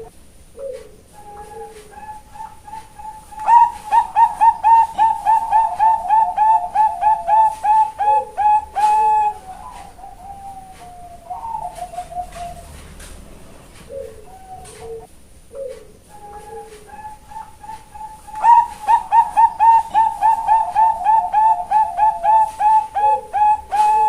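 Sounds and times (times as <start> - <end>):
dove cooing: 0.0 - 24.0.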